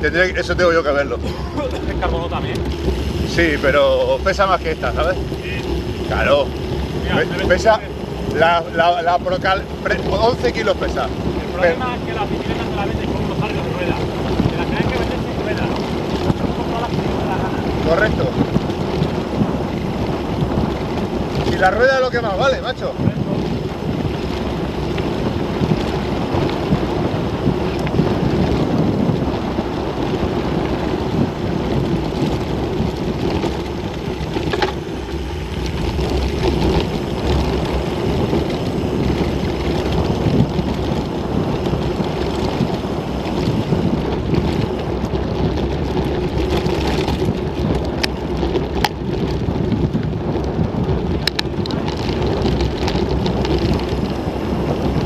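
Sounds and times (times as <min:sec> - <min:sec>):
bike rattling: 0:00.0 - 0:55.0
tyres crunching over gravel: 0:00.0 - 0:55.0
wind on microphone: 0:00.0 - 0:55.0.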